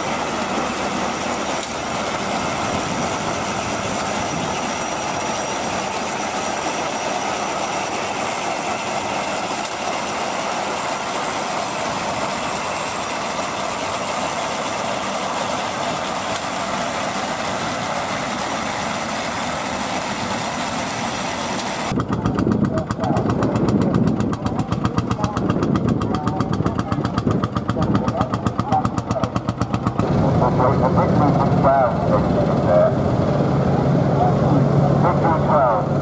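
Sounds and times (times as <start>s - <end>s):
binder mechanism running: 0.0s - 35.1s
tractor engine running: 0.0s - 36.0s.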